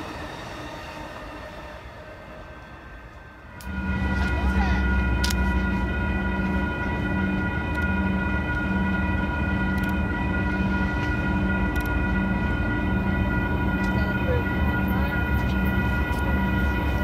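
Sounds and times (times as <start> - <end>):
train rumbling: 0.0 - 17.0
pulsing low hum: 1.1 - 17.0
high ringing tones: 3.3 - 17.0.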